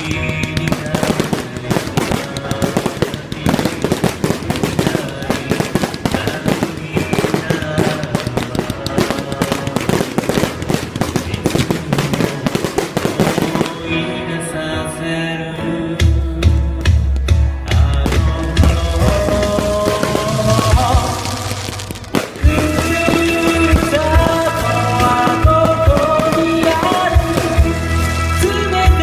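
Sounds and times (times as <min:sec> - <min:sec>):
fireworks bangs and crackles: 0:00.0 - 0:14.7, 0:16.0 - 0:29.0
music: 0:00.0 - 0:29.0.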